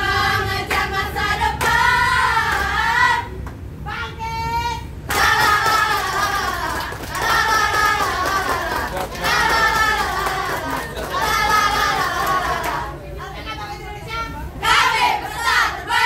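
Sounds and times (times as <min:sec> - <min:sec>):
women chanting a cheer: 0:00.0 - 0:16.0.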